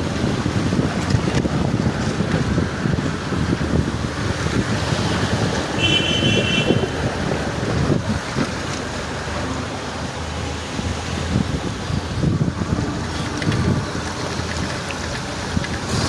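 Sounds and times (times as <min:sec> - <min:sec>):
street and water noise: 0:00.0 - 0:16.0
wind buffeting microphone: 0:00.0 - 0:16.0.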